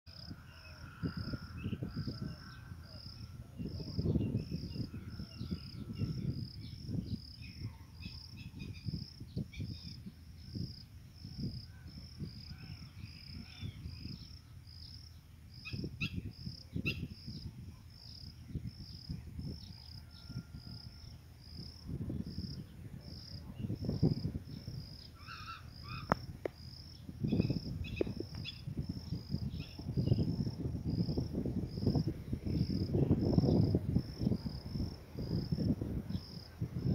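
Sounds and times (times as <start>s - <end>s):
insect chirping: 0.1s - 36.9s
wind buffeting microphone: 0.1s - 36.9s.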